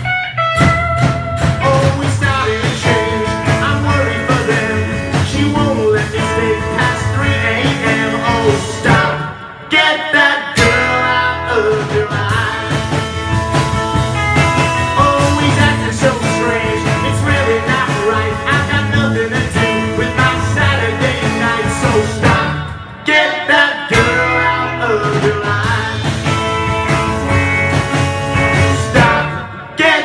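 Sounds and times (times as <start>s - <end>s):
upright double bass: 0.0s - 9.3s, 10.6s - 22.8s, 23.9s - 29.4s
skiffle band playing: 0.0s - 9.7s, 10.6s - 23.2s, 23.9s - 30.0s
sung vocals: 1.4s - 13.3s, 14.8s - 27.5s, 28.4s - 30.0s.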